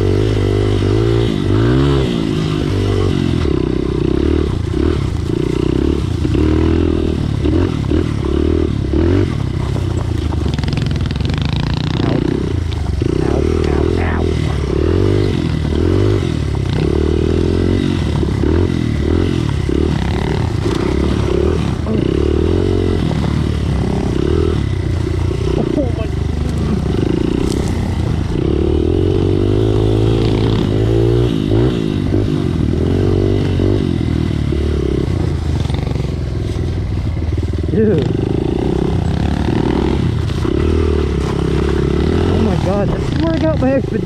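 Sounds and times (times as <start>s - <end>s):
pit bike engine revving: 0.0s - 44.0s.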